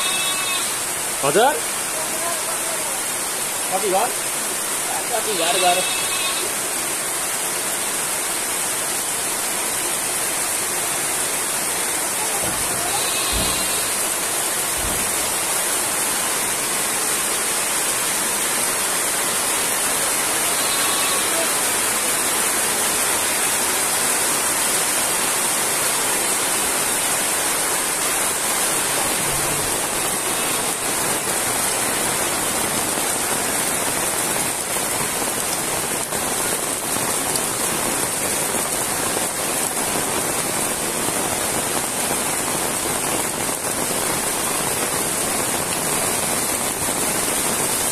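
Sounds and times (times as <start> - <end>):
heavy rain on metal roofs: 0.0 - 47.9
water running off eaves: 0.0 - 47.9.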